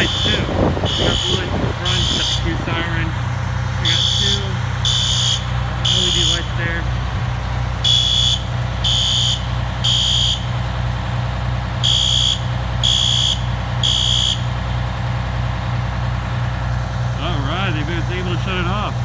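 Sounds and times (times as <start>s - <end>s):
fire alarm horn blasts: 0.0s - 19.0s
large engine idling: 0.0s - 19.0s.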